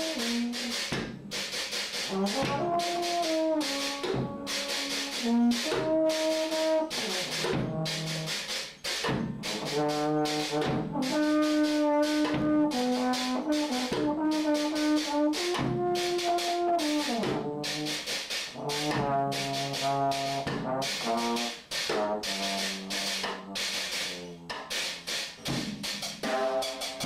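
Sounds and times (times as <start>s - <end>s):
brass instrument playing held notes: 0.0s - 8.7s, 9.4s - 25.5s, 26.1s - 27.0s
drum or cymbal beat: 0.0s - 27.0s.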